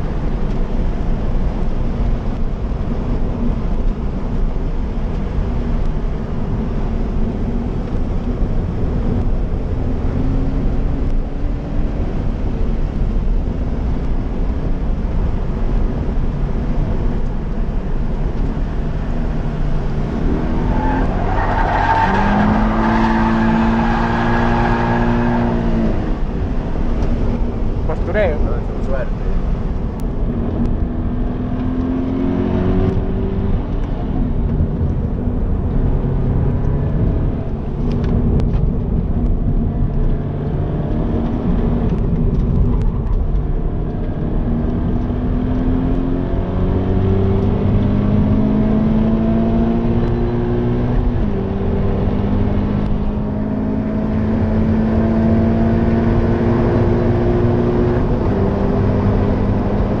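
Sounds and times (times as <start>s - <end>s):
car engine accelerating: 0.0s - 60.0s
road and tyre noise: 0.0s - 60.0s.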